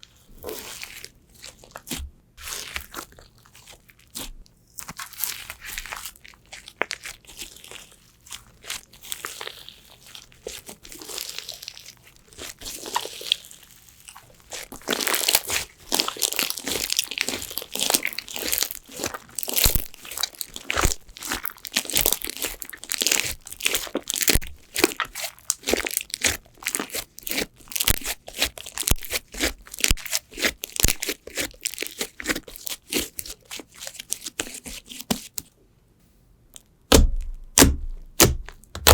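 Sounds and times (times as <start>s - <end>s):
crunchy slime crackling and popping: 0.4s - 35.4s, 36.6s - 38.9s.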